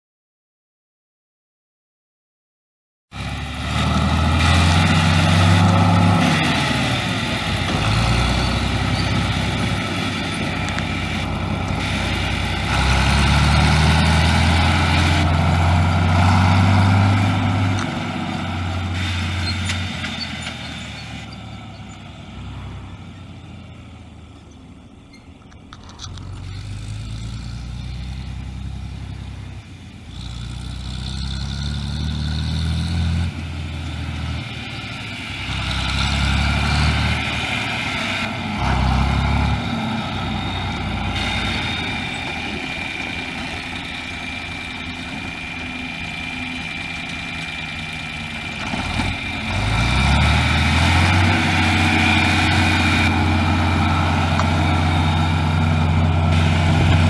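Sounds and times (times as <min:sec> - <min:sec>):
tractor diesel engine running: 0:03.2 - 0:57.0.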